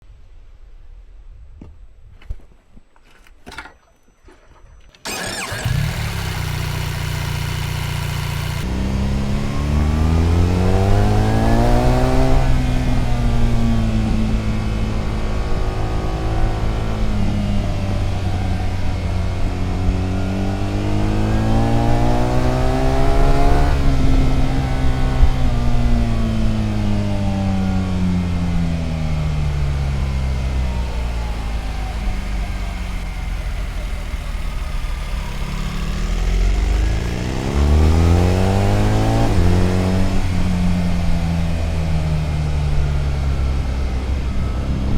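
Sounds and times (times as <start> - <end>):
motorcycle engine revving: 5.0 - 44.9.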